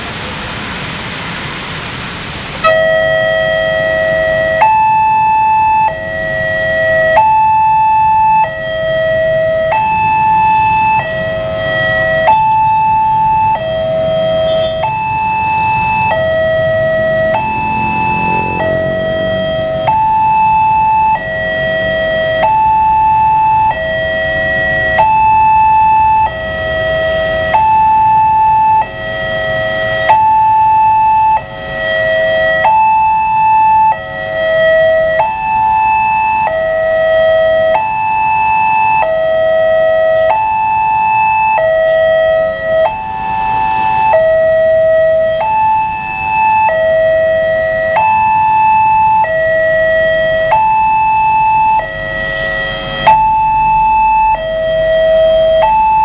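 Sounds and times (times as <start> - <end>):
level crossing two-tone alarm: 2.6 - 56.0.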